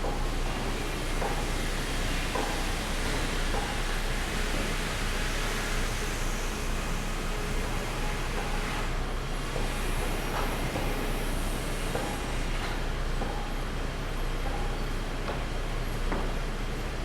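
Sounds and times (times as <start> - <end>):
sawmill machinery running: 0.0 - 14.7.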